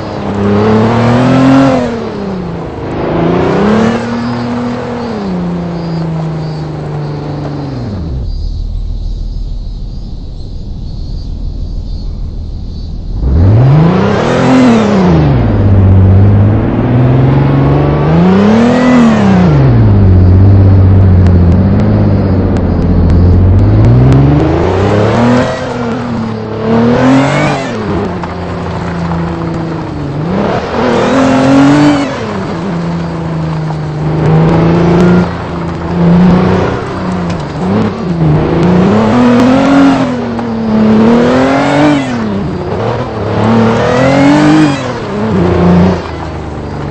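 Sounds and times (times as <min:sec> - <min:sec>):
vehicle engine revving: 0:00.0 - 0:46.9.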